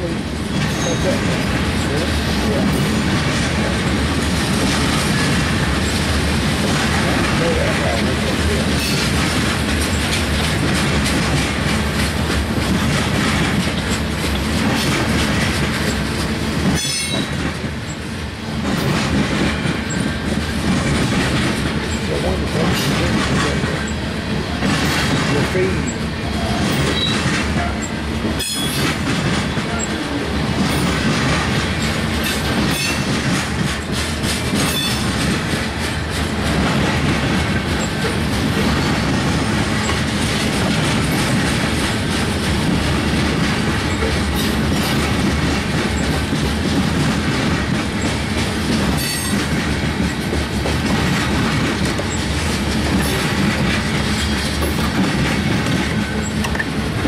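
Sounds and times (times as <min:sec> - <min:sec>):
freight train wheels rumbling: 0:00.0 - 0:57.0
wheels clicking over rail joints: 0:00.4 - 0:57.0.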